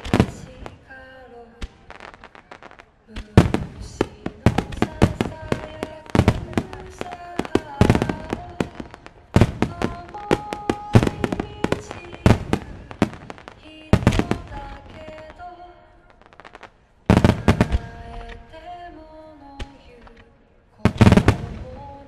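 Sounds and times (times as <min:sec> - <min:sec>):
fireworks shells bursting: 0:00.0 - 0:18.9, 0:19.6 - 0:22.0.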